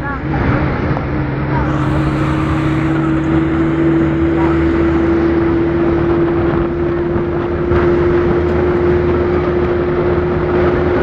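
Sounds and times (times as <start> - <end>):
road noise: 0.0 - 11.0
vehicle engine accelerating: 0.0 - 11.0.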